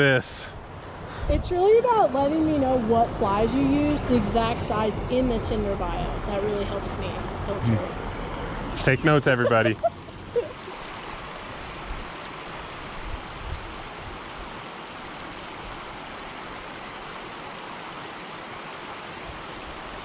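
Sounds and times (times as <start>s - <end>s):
creek flowing over rocks: 0.8s - 20.0s.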